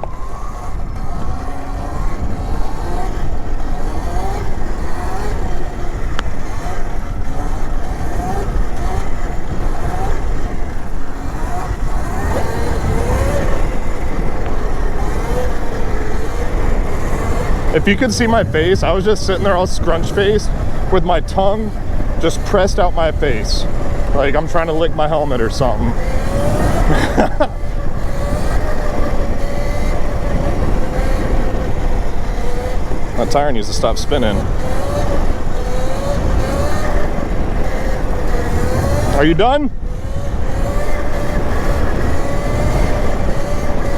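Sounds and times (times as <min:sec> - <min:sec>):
electric motor whine: 0:00.0 - 0:43.9
wind on microphone: 0:00.0 - 0:43.9.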